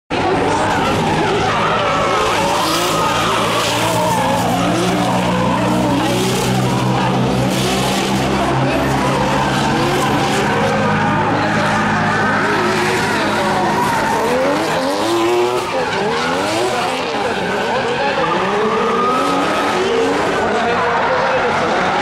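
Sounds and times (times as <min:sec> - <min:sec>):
car engines revving high: 0:00.1 - 0:22.0
tyres screeching: 0:00.4 - 0:20.6.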